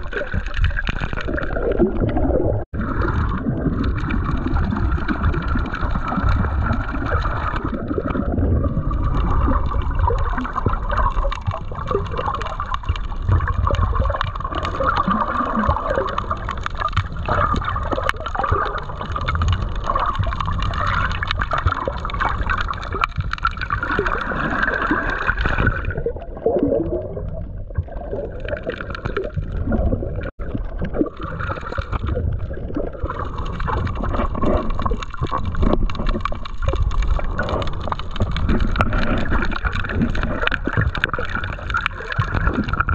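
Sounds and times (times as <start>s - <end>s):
muffled underwater water gurgling: 0.0s - 42.9s.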